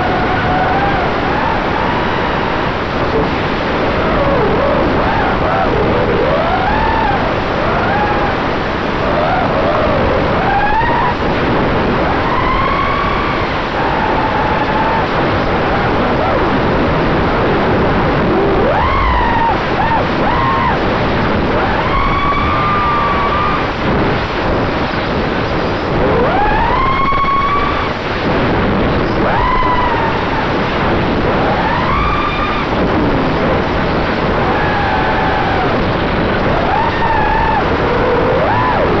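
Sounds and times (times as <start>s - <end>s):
drone motors whining: 0.0s - 39.0s
rush of wind and prop noise: 0.0s - 39.0s.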